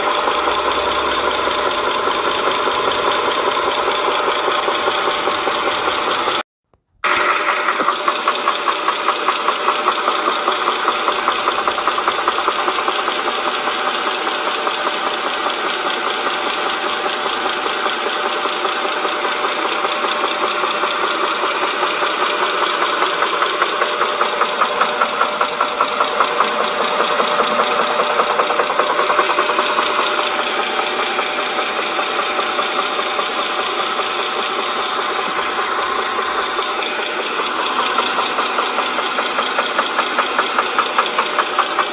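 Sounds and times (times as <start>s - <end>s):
engine knocking rattle: 0.0s - 6.4s, 7.0s - 41.9s
high whine: 7.0s - 41.9s.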